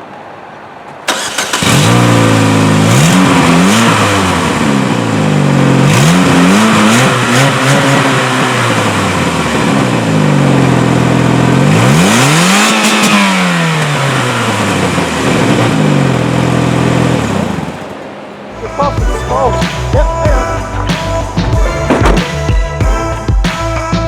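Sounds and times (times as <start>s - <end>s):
car engine starting: 1.0s - 24.0s
car engine revving: 1.1s - 24.0s.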